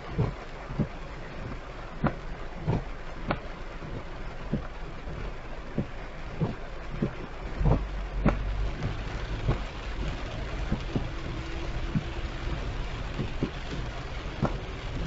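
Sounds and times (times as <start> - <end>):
car rumbling on wet road: 0.0 - 15.0
heavy rain hitting a car: 0.0 - 15.0.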